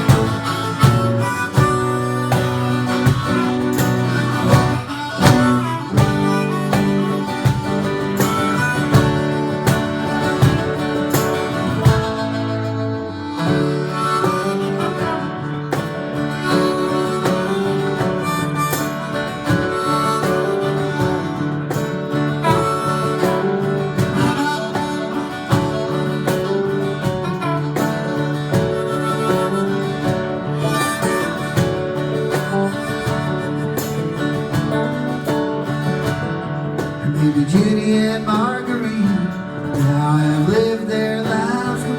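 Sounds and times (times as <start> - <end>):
harmonica lead: 0.0 - 41.9
live band playing: 0.0 - 41.9
strummed acoustic guitar: 0.0 - 41.9.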